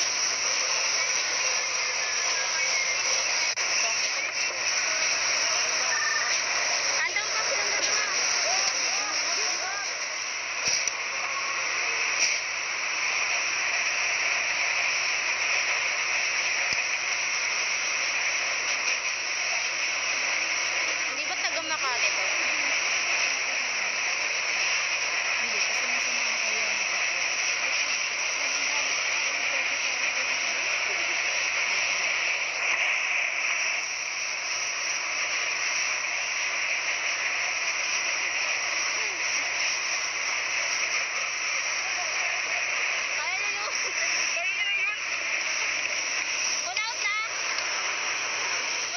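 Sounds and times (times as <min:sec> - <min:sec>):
water spraying from fire hoses: 0:00.0 - 0:48.9.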